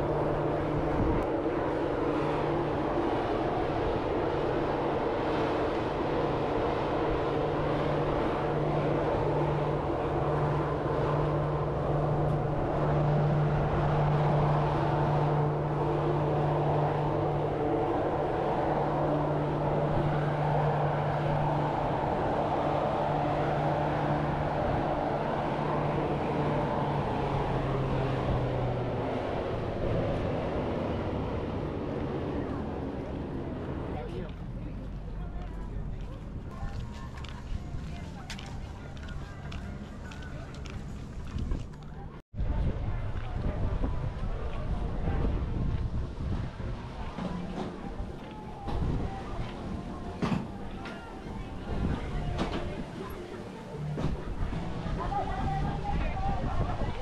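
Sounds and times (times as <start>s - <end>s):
engine hum: 0.0s - 57.0s
outdoor background noise: 0.0s - 57.0s.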